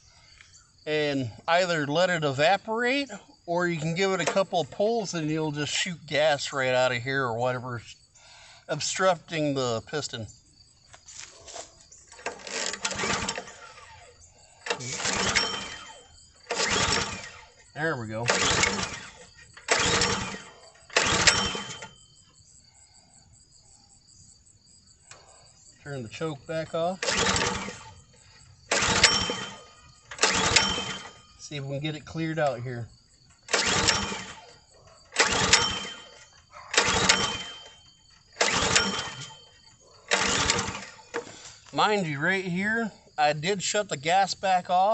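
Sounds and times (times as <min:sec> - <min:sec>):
engine cranked by pull-starter: 0:00.0 - 0:07.0, 0:11.5 - 0:22.4, 0:25.0 - 0:44.9.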